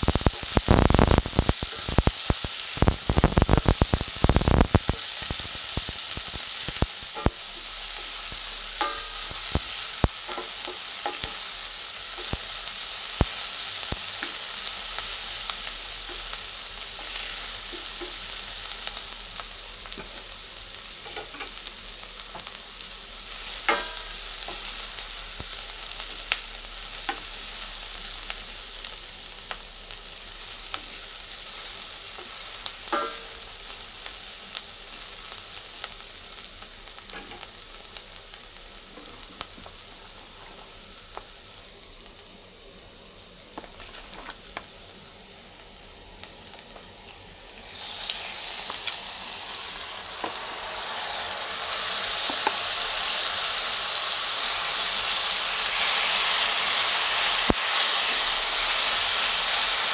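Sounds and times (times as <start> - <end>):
onion sizzling in oil: 0.0 - 59.9.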